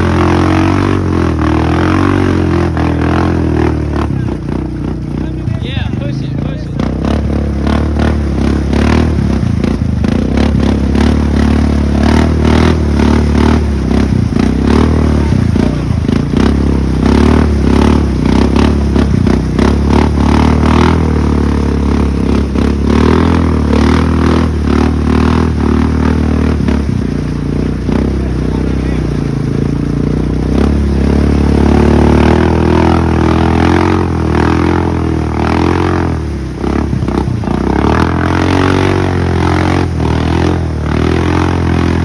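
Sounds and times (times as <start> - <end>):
atv engine revving: 0.0 - 42.0
tyres churning mud: 0.0 - 42.0.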